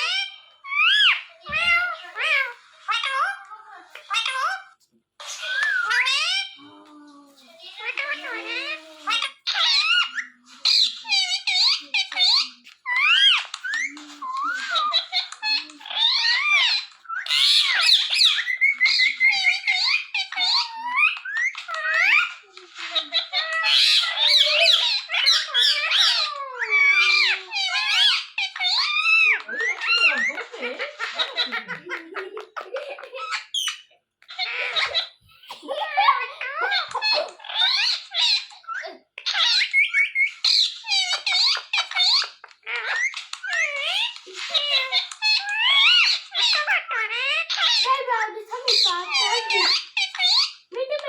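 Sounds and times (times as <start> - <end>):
parrot chattering: 0.0 - 6.6, 7.6 - 51.0.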